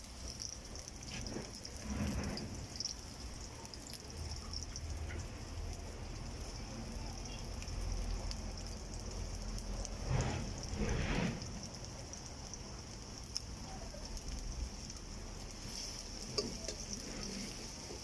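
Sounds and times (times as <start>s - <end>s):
onions frying in oil: 0.0s - 18.0s.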